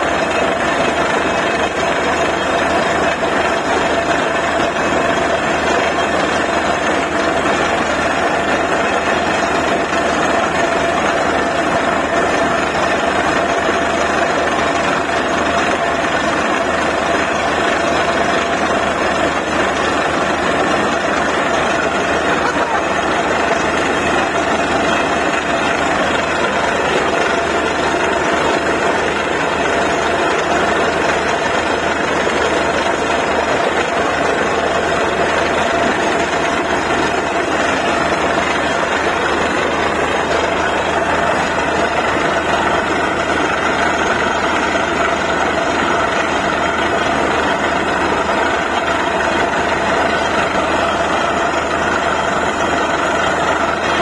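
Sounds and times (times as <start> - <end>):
constant whine: 0.0 - 54.0
drilling rig engine running: 0.0 - 54.0.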